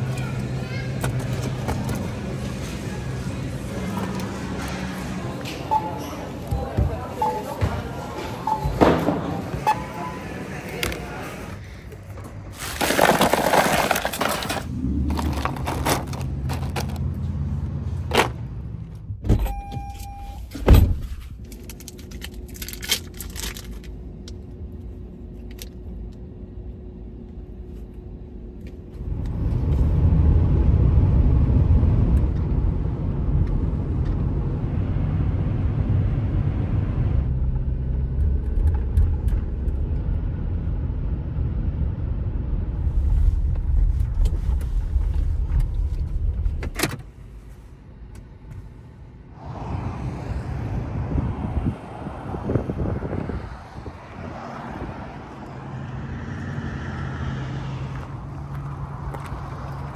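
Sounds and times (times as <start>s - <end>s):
engine and road rumble: 0.0s - 59.9s.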